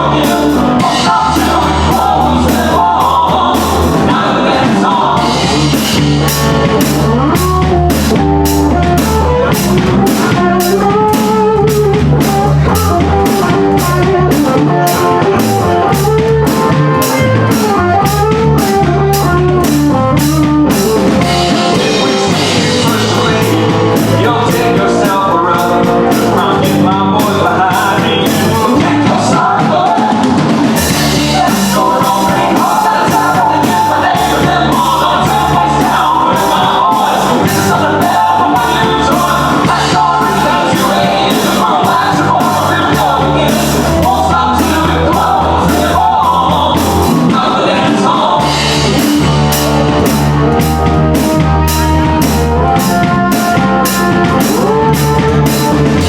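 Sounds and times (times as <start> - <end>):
drum kit beat: 0.0 - 56.0
electric guitars: 0.0 - 56.0
live country band playing: 0.0 - 56.0.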